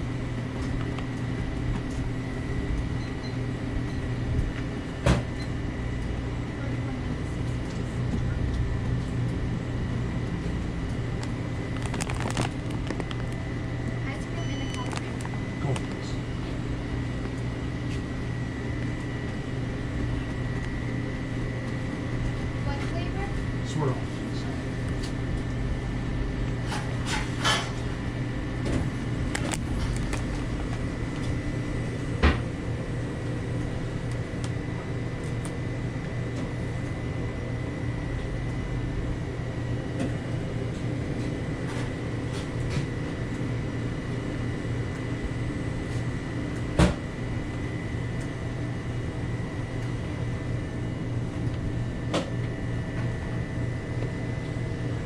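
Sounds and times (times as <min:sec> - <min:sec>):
machine hum with high whine: 0:00.0 - 0:55.0.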